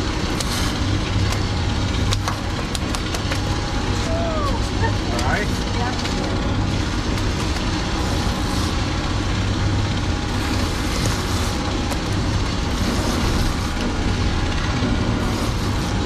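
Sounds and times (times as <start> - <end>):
boat outboard motors running: 0.0 - 16.0.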